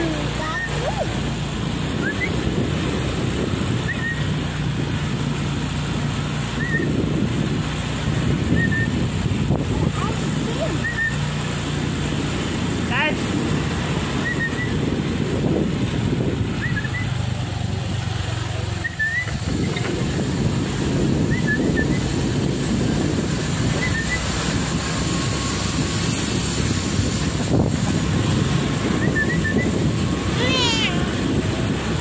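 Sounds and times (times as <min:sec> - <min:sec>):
motorcycle engine running: 0:00.0 - 0:32.0
wind and road noise: 0:00.0 - 0:32.0.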